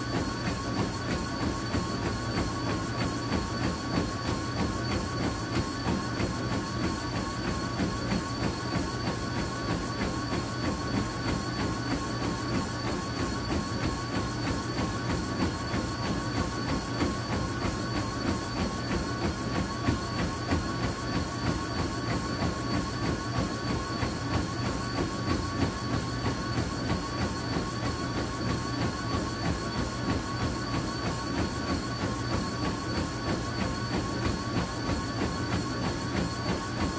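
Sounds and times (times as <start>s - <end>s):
feet striking treadmill belt: 0.0s - 36.9s
treadmill motor whine: 0.0s - 36.9s.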